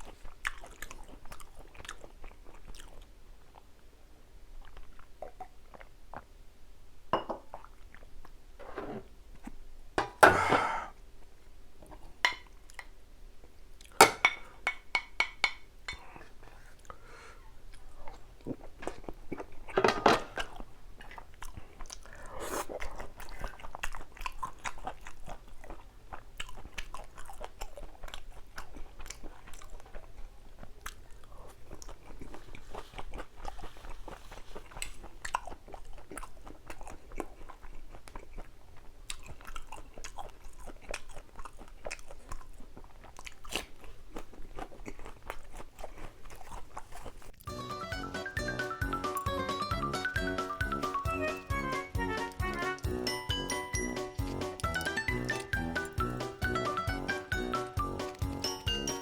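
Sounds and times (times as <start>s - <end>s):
person chewing crunchy food: 0.0s - 3.8s, 4.5s - 6.3s, 15.9s - 59.0s.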